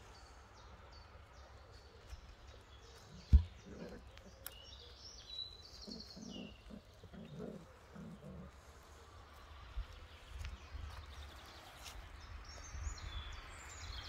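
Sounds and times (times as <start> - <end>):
birds chirping and singing: 0.0 - 14.0.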